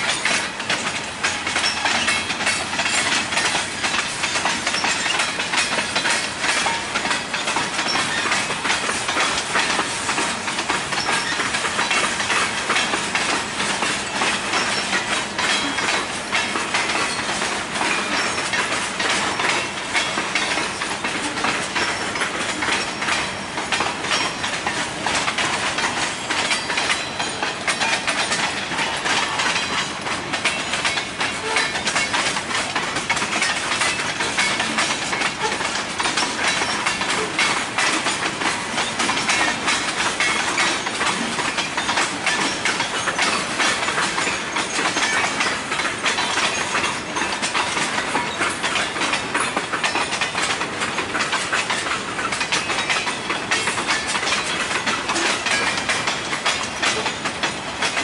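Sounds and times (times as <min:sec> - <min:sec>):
train wheels clacking on rails: 0:00.0 - 0:58.0.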